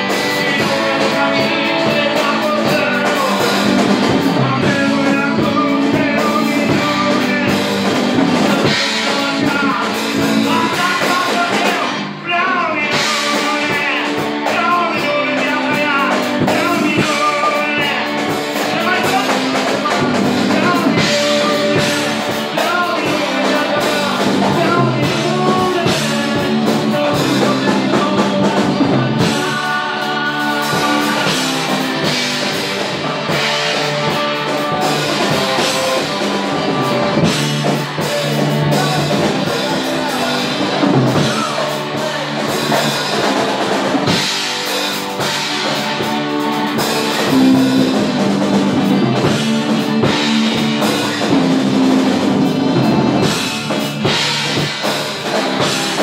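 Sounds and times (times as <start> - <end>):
man singing into microphone: 0.0 - 52.3
bass guitar: 0.0 - 56.0
drum kit: 0.0 - 56.0
keyboard: 0.0 - 56.0.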